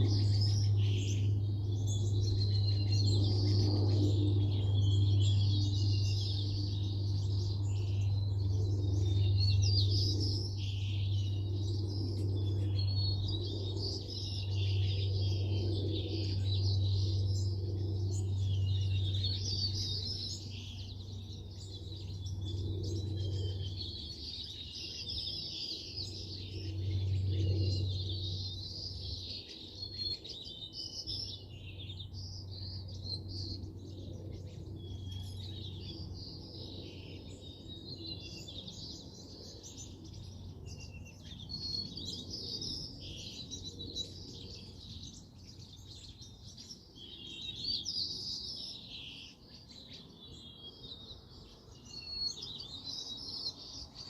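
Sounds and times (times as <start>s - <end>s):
steady low hum: 0.0s - 47.1s
songbirds chirping: 0.0s - 54.0s.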